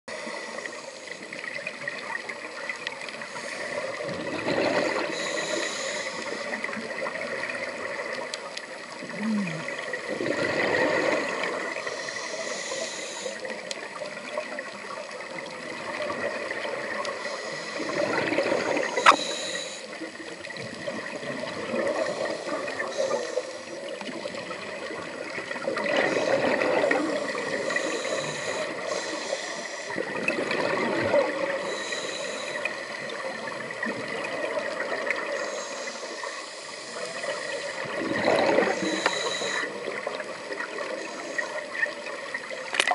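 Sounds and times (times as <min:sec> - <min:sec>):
steady watery hiss: 0:00.1 - 0:42.9
exhaled bubbles underwater: 0:01.3 - 0:12.4, 0:13.2 - 0:36.4, 0:37.0 - 0:42.9.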